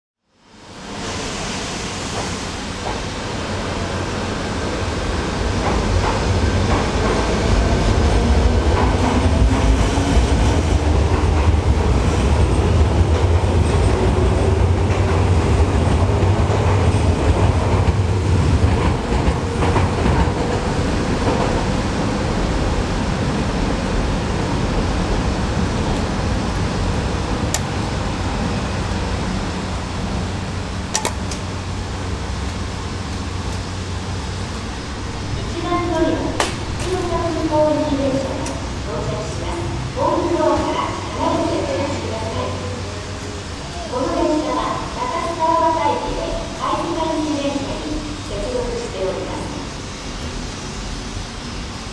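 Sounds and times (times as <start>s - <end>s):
train rumble: 0.4s - 51.9s.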